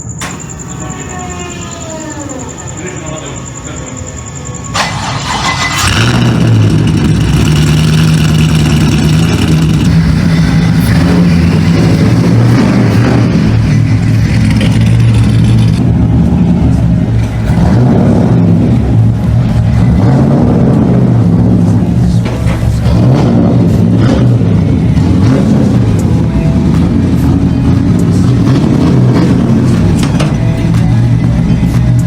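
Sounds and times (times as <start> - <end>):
road noise: 0.0 - 32.0
vehicle engine humming: 0.0 - 32.0.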